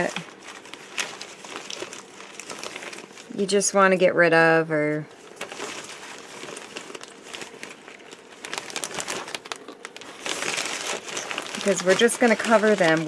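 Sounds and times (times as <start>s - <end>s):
bag crinkling and rustling: 0.0s - 3.9s, 5.1s - 13.0s.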